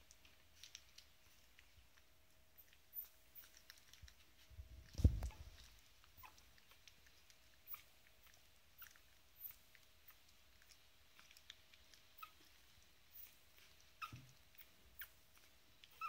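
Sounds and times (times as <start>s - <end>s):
puppy suckling from bottle: 0.4s - 16.0s.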